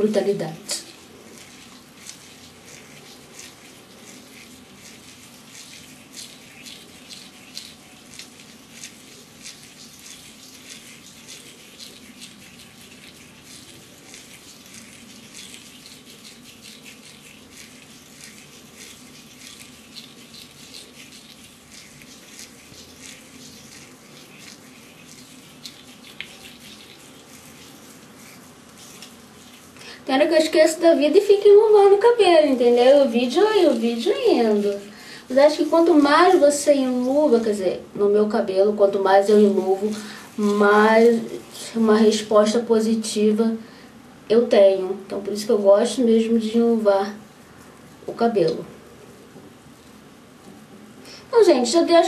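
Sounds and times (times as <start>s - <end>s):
comb crackling through wet hair: 0.0s - 37.7s, 38.6s - 43.4s, 45.3s - 48.8s, 49.6s - 50.7s
faint steady hum: 0.0s - 52.0s.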